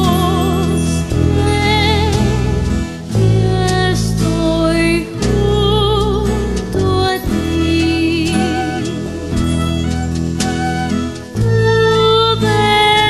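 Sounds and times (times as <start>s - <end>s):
band music: 0.0s - 13.0s.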